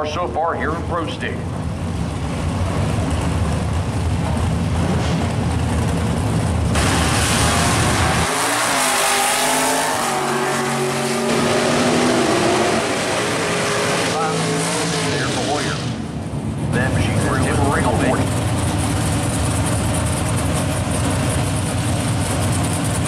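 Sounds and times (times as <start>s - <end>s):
car engines idling: 0.0s - 8.6s, 9.6s - 23.0s
engines accelerating: 0.0s - 23.0s.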